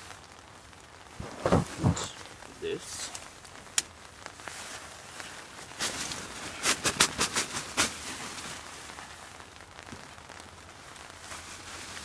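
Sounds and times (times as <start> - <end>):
rain on a tent: 0.0 - 12.0
nylon tent rustling and clicking: 1.0 - 2.4, 3.1 - 12.0.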